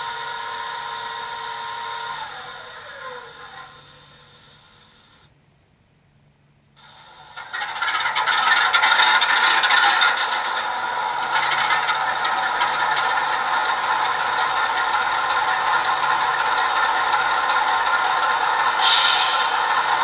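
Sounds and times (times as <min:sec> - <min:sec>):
diesel engine starting and idling: 0:00.0 - 0:05.3, 0:06.8 - 0:20.0.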